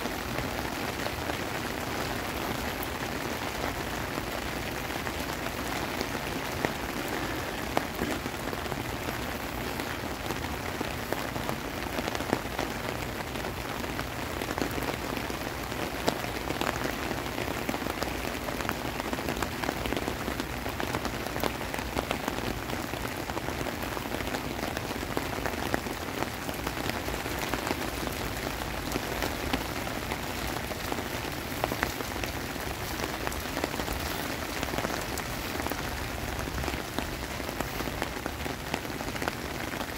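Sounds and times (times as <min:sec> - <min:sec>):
heavy rain falling: 0:00.0 - 0:39.9
raindrops ticking on hard surfaces: 0:00.0 - 0:39.9.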